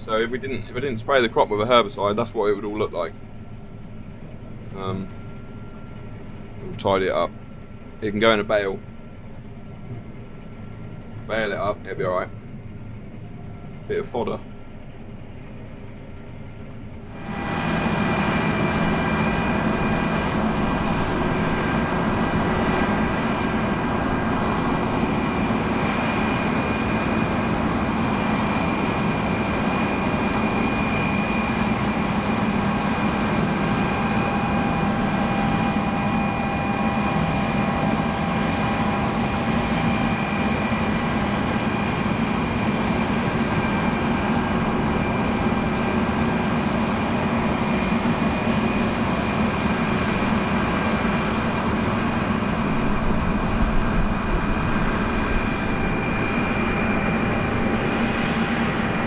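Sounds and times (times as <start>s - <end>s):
combine engine drone: 0.0s - 59.0s
high whine of threshing drives: 0.0s - 59.0s.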